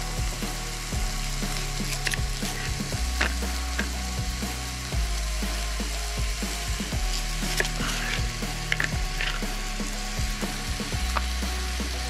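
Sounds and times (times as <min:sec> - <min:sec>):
steak sizzling in a pan: 0:00.0 - 0:12.0.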